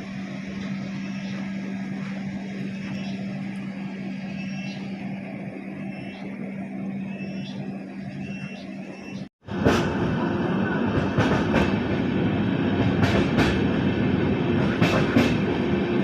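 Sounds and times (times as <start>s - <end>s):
train rumble inside coach: 0.0s - 16.0s.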